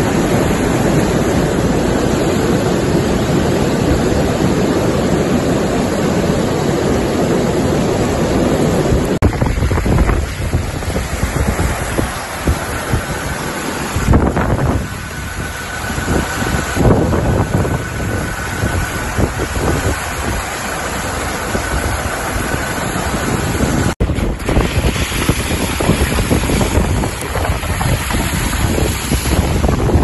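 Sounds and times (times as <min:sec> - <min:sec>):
rushing floodwater: 0:00.0 - 0:30.0
wind buffeting microphone: 0:00.0 - 0:30.0.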